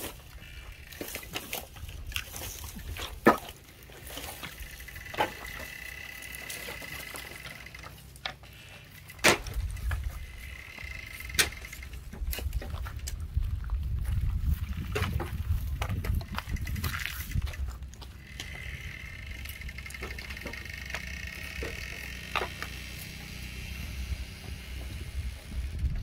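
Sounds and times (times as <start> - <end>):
wooden poles knocking together: 0.0 - 13.5, 14.2 - 23.4.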